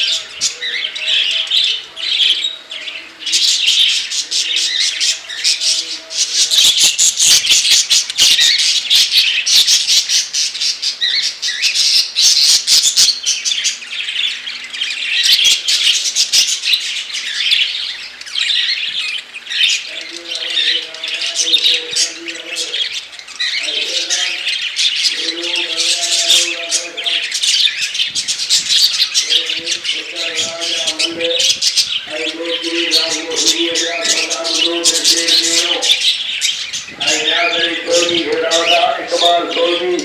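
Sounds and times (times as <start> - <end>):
caged birds chattering and squawking: 0.0 - 40.0.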